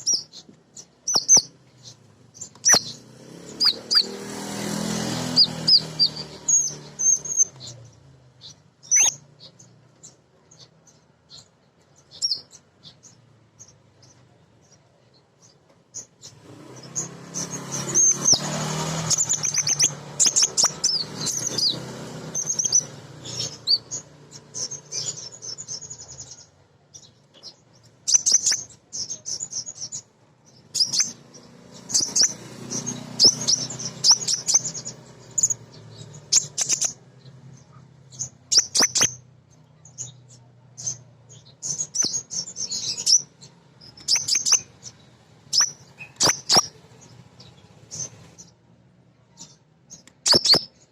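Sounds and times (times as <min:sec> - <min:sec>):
bird twittering chirps: 0:00.0 - 0:48.6, 0:49.2 - 0:50.9.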